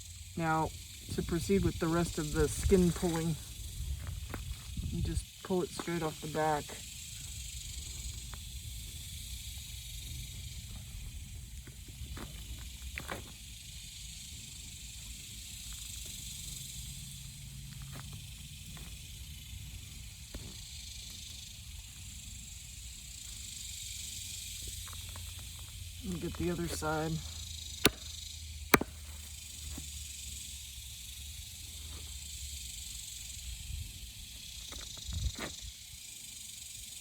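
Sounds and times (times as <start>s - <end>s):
steady high hiss: 0.0s - 37.0s.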